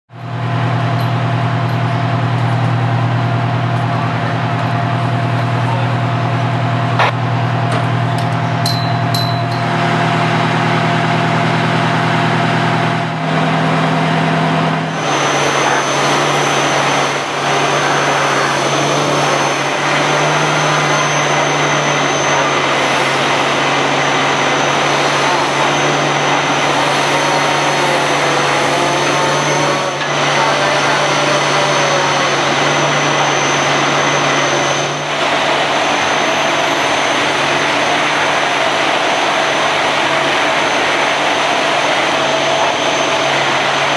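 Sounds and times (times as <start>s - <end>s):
fire truck engines running: 0.1s - 43.9s.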